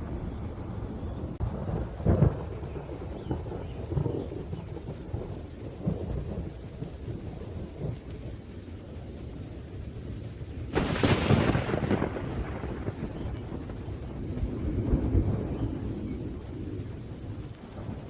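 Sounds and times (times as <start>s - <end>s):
loud thunderclap: 0.0s - 8.4s, 10.1s - 18.0s
steady rain: 0.0s - 18.0s
thunder rumbling: 0.0s - 18.0s.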